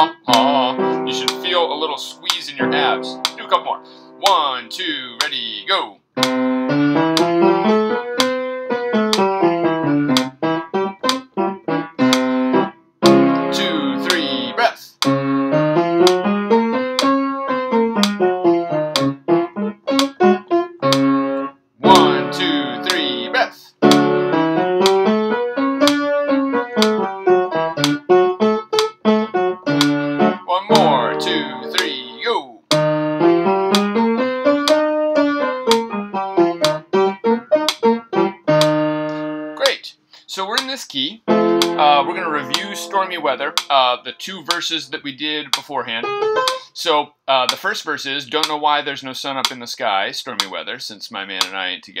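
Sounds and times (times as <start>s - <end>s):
piano playing scales: 0.0s - 39.8s, 41.2s - 45.0s, 45.9s - 46.8s
metronome ticking: 0.3s - 5.6s, 6.2s - 11.4s, 12.0s - 12.4s, 13.1s - 15.2s, 15.9s - 28.1s, 28.7s - 38.8s, 40.5s - 46.7s, 47.5s - 47.7s, 48.3s - 48.6s, 49.4s - 49.6s.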